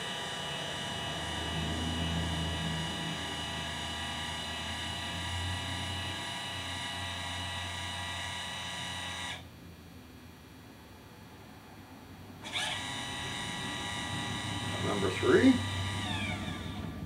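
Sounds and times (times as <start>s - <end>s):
drive motors whining: 0.0s - 9.4s, 12.4s - 17.0s.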